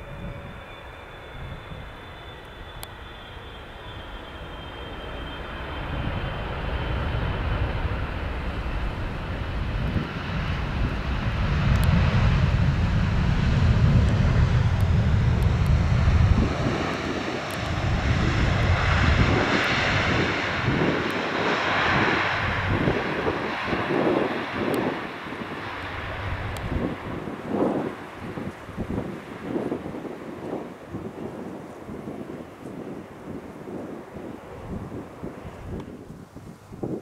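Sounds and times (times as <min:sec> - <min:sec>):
jet engine rumble: 0:00.0 - 0:37.0.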